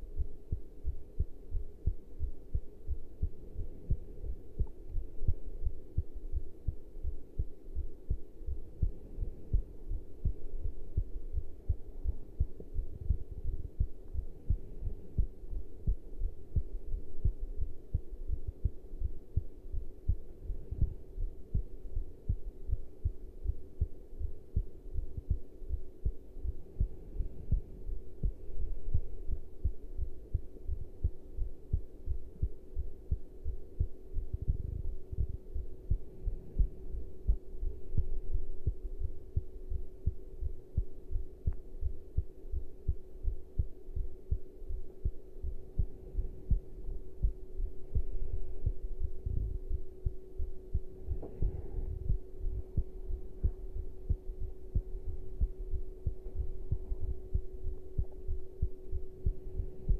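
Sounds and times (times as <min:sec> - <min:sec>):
faint steady hum: 0:00.0 - 0:59.9
heartbeat thumps: 0:00.0 - 0:59.9.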